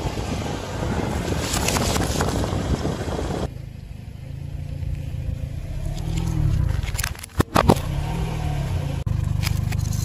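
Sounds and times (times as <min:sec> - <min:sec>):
car tyre rolling low rumble: 0:00.0 - 0:10.0.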